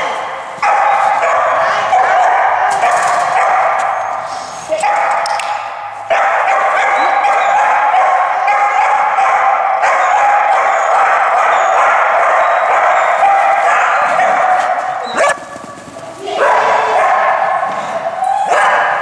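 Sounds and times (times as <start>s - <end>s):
dog barking and yipping: 0.6s - 5.3s, 6.0s - 15.5s, 16.4s - 19.0s.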